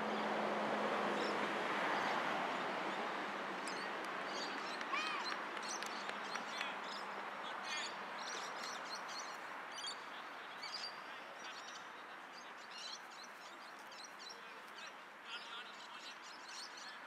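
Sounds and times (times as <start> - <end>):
outdoor background noise: 0.0 - 17.0
birds chirping: 1.2 - 17.0.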